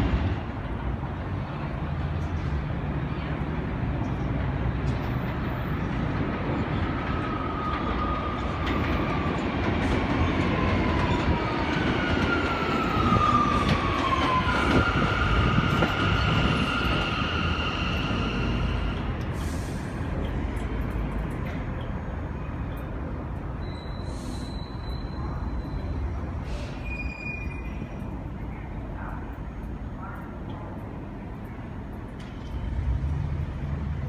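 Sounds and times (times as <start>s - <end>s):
subway train rumbling: 0.0s - 34.0s.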